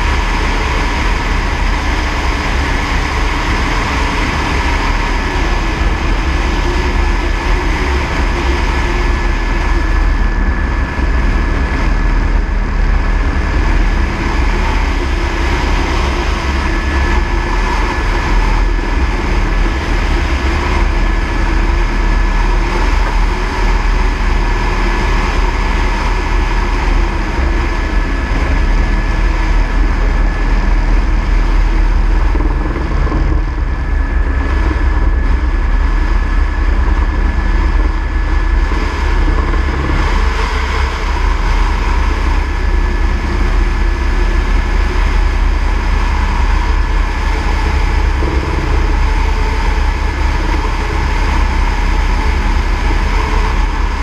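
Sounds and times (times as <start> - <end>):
helicopter in flight: 0.0 - 54.0.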